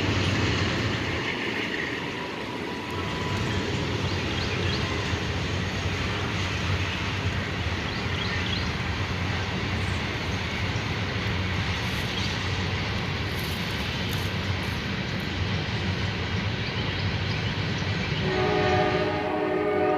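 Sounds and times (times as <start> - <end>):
train running: 0.0 - 19.9.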